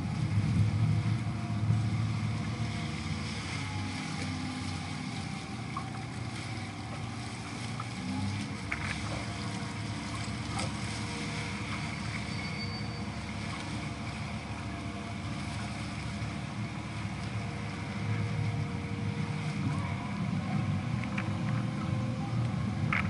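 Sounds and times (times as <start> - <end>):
boat engine rumbling: 0.0 - 23.0
water and wind noise: 0.0 - 23.0.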